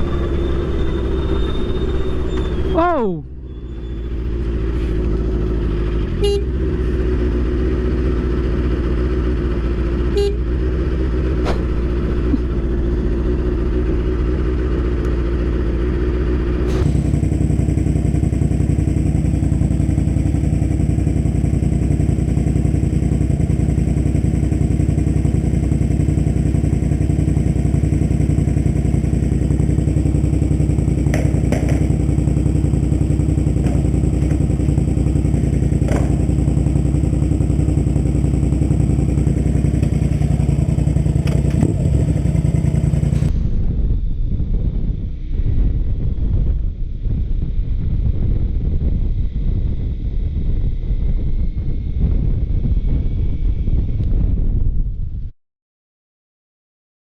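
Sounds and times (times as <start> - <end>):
motorcycle engine running: 0.0 - 55.2.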